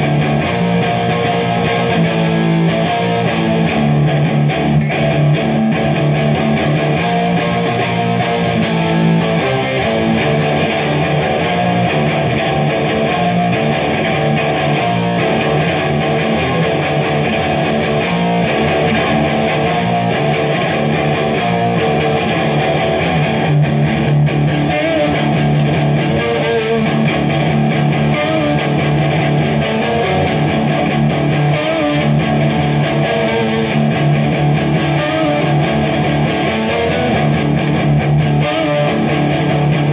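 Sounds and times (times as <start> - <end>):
electric guitar: 0.0 - 39.9.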